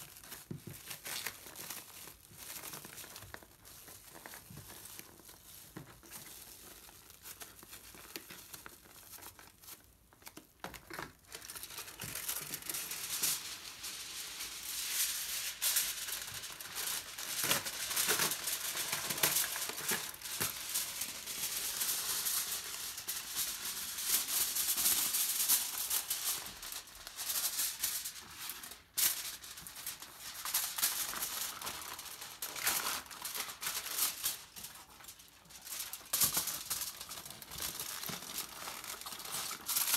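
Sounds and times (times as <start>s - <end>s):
aluminium foil crinkling: 0.0s - 39.9s.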